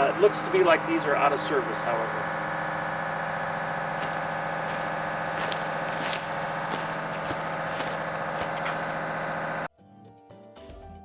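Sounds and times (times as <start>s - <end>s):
engine idling: 0.0s - 9.7s.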